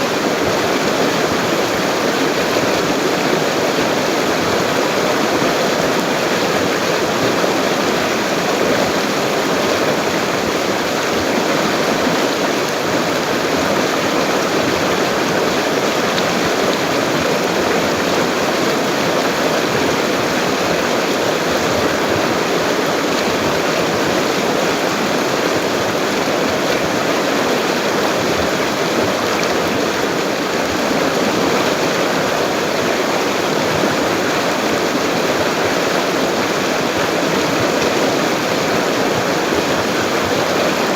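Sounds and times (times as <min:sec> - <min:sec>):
river rushing: 0:00.0 - 0:40.9.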